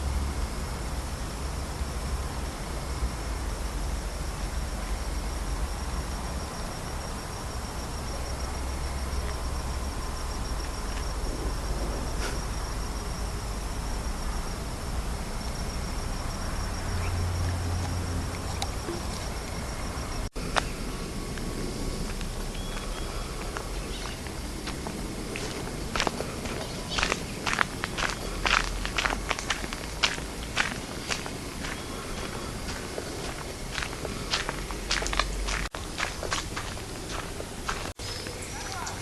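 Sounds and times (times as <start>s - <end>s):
background hiss: 0.0s - 39.0s
insects trilling: 0.0s - 39.0s.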